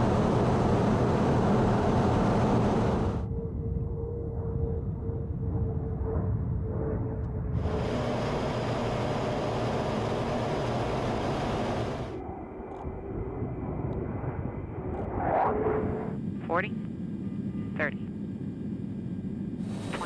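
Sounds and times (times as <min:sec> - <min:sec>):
dull jet rumble: 0:00.0 - 0:20.0
fighter jet engine roar: 0:00.0 - 0:20.0.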